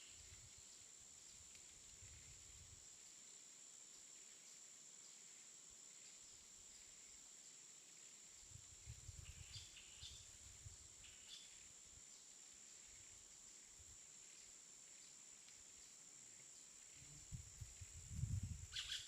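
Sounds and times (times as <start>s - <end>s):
faint high-pitched hiss: 0.0s - 19.0s.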